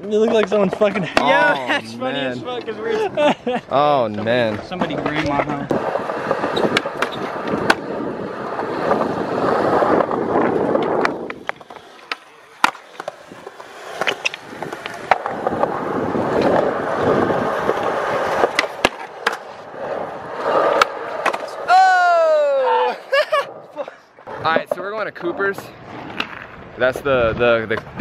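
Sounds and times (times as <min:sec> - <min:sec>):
skateboard clacking on ground: 0:00.0 - 0:03.0, 0:03.8 - 0:21.7, 0:24.2 - 0:26.6
skateboard wheels rolling on concrete: 0:00.0 - 0:28.0.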